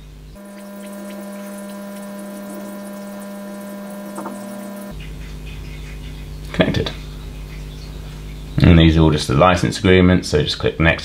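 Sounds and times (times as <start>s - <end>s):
high-pitched electrical hum: 0.0s - 9.5s.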